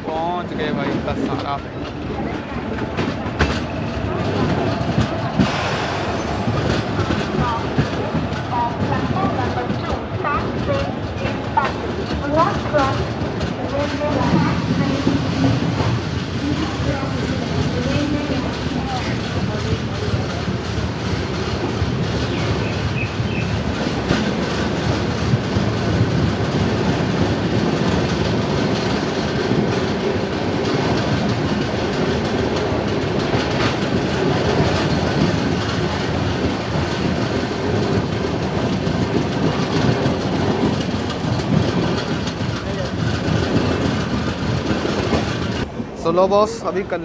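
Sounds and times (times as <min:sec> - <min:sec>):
wheels clattering over rails: 0:00.0 - 0:45.7
train coaches rumbling: 0:00.0 - 0:47.0.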